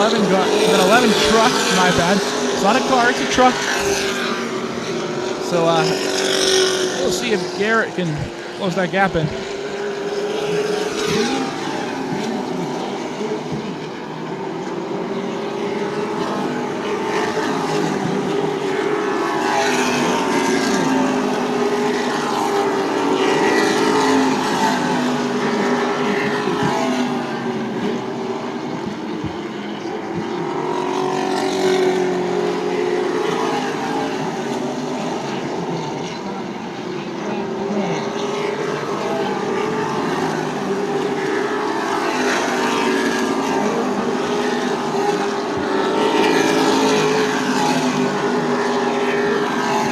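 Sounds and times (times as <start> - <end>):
racing truck engines passing: 0.0 - 49.9.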